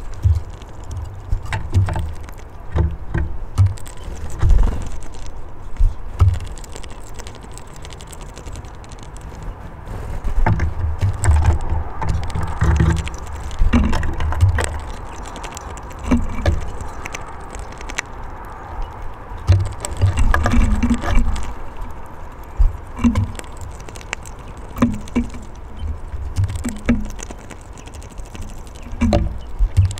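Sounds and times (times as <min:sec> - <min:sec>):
birds pecking and cracking seeds: 0:00.0 - 0:29.9.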